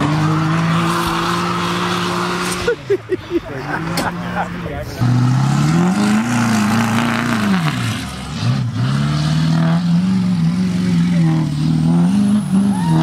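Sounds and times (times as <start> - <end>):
pickup engine revving: 0.0 - 13.0
tires spinning on grass: 0.0 - 13.0.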